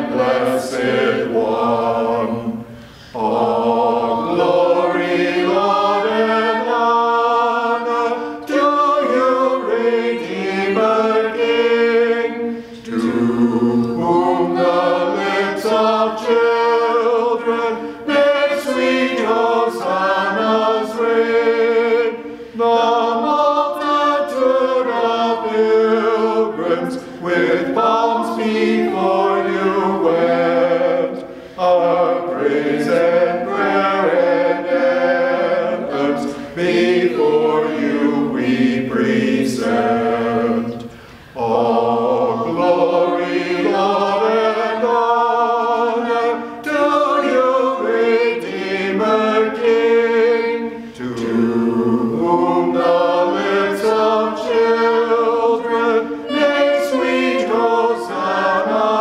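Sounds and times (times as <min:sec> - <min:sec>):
group singing a hymn unaccompanied: 0:00.0 - 0:59.0.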